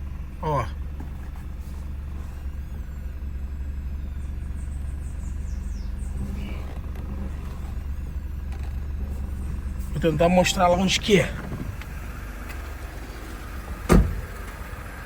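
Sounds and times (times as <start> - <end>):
car engine idling: 0.0 - 15.0
power steering whine: 0.0 - 15.0.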